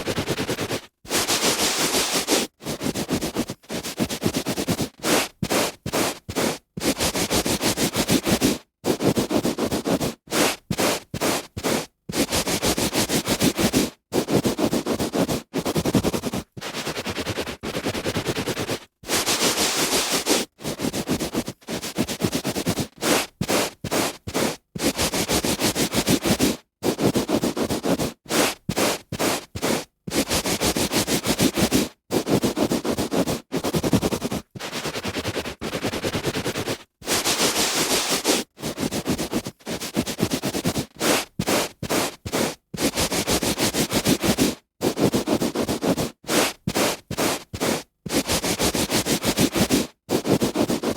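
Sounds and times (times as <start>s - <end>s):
hand rubbing on carpet: 0.0s - 50.9s.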